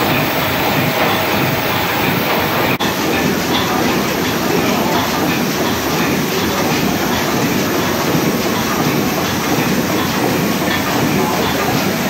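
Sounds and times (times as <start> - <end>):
steam engine mechanical clatter: 0.0 - 12.0.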